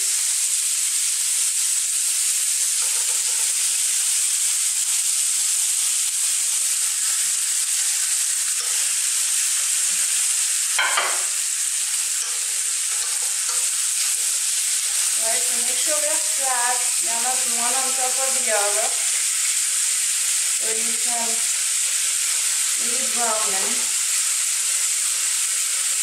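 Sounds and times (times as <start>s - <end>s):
beef sizzling in a pan: 0.0s - 26.0s.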